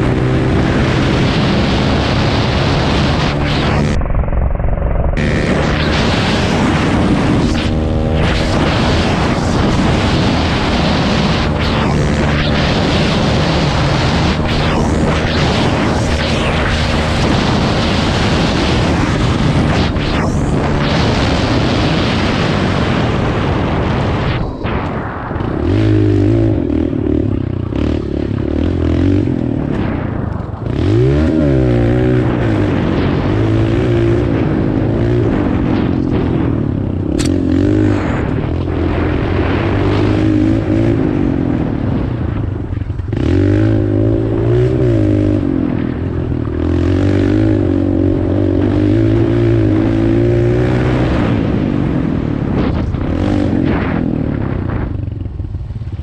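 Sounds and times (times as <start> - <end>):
wind noise on microphone: 0.0 - 27.7, 28.7 - 56.0
dirt bike engine revving: 0.0 - 30.0, 30.6 - 42.0, 43.0 - 51.9.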